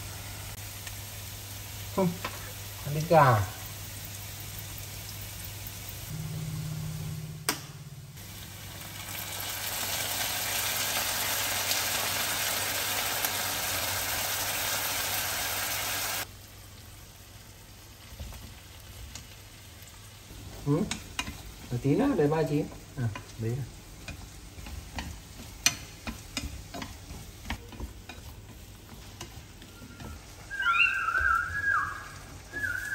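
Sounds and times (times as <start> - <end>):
loud sizzle: 0.0 - 32.9
vegetables frying in a pan: 0.0 - 32.9.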